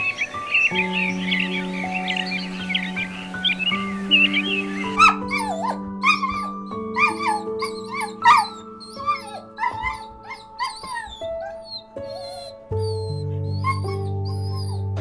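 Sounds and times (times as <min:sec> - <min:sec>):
dog whining and yipping: 0:00.0 - 0:15.0
soft background music: 0:00.0 - 0:15.0.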